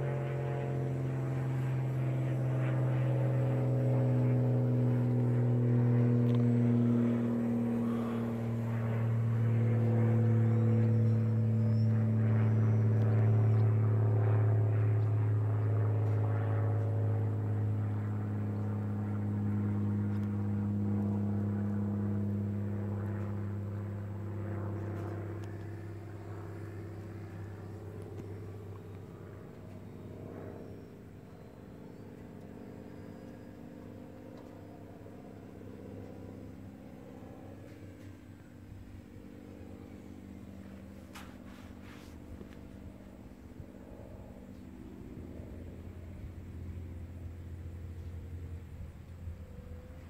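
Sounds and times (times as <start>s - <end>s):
model airplane motor droning: 0.0s - 50.0s.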